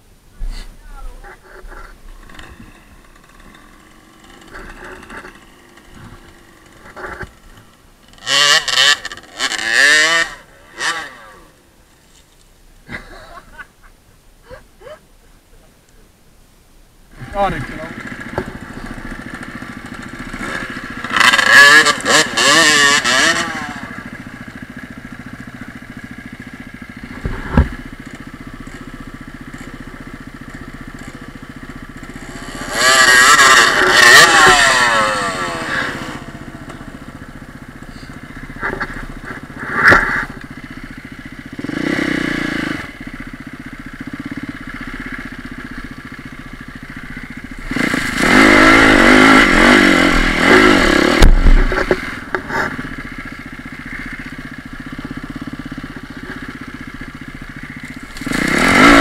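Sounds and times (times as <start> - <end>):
dirt bike engines revving: 0.5 - 12.2, 17.1 - 59.0.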